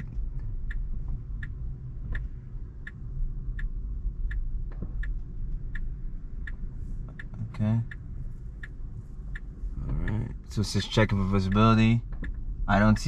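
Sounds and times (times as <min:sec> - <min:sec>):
low cabin rumble: 0:00.0 - 0:13.0
turn signal ticking: 0:00.0 - 0:13.0.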